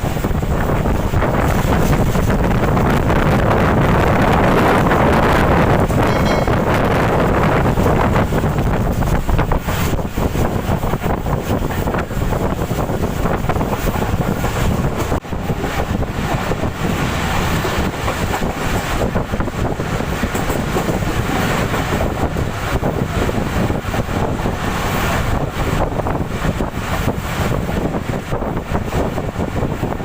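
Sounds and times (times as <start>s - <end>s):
passenger train passing: 0.0s - 30.0s
wind buffeting microphone: 0.0s - 30.0s.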